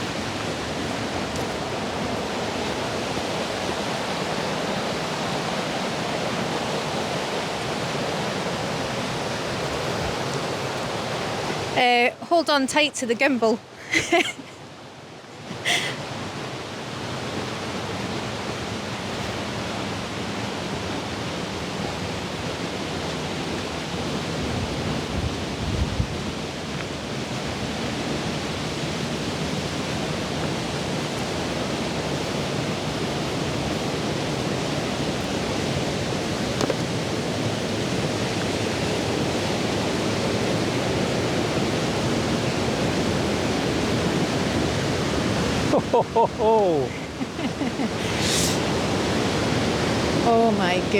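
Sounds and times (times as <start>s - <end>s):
waterfall roaring: 0.0s - 14.4s, 15.4s - 50.9s.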